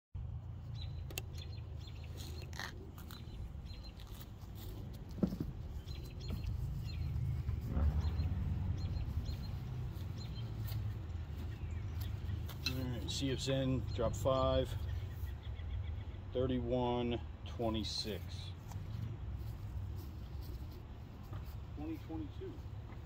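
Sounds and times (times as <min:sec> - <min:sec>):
small birds chirping: 0:00.2 - 0:17.0, 0:17.6 - 0:23.0.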